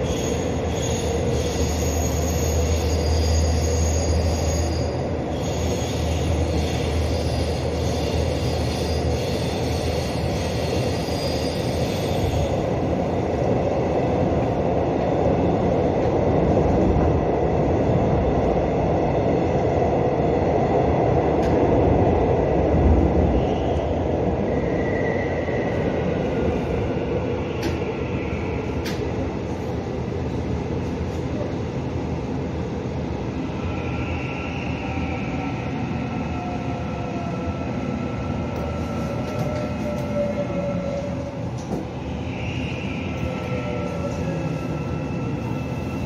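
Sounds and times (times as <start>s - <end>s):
subway train running: 0.0s - 46.0s.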